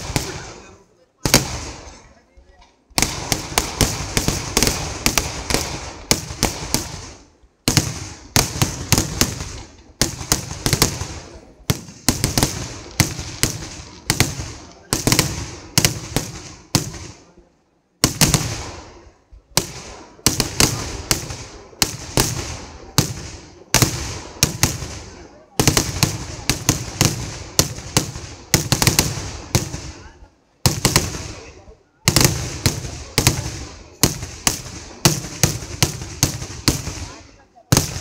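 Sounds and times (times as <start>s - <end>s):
fireworks bursting with echoes: 0.0s - 38.0s.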